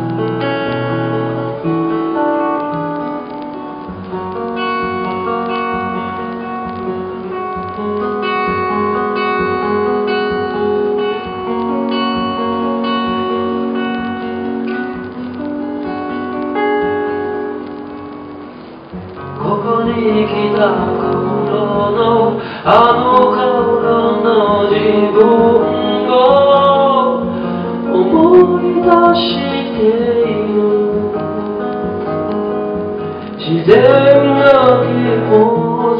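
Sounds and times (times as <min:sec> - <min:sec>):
solo acoustic guitar: 0:00.0 - 0:35.9.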